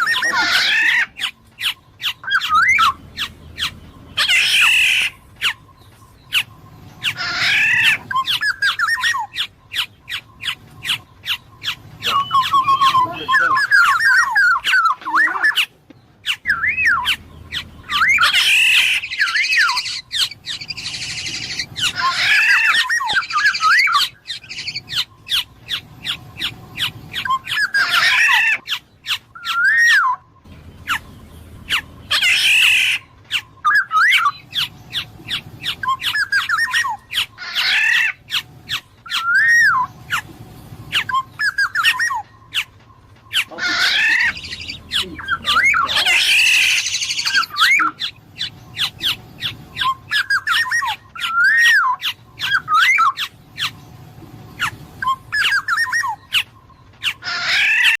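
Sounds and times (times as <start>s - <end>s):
oriole whistled calls: 0.0s - 58.0s.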